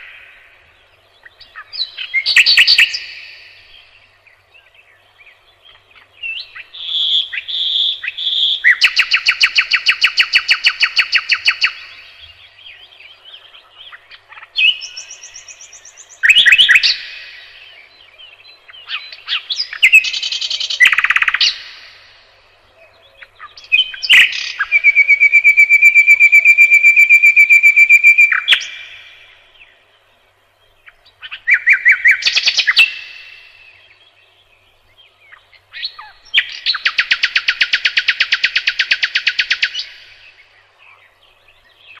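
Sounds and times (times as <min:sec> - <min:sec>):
nightingale singing: 0:00.0 - 0:42.0.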